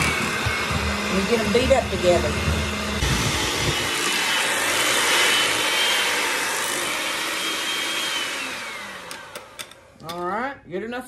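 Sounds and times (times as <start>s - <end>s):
electric hand mixer whirring: 0.0s - 10.0s.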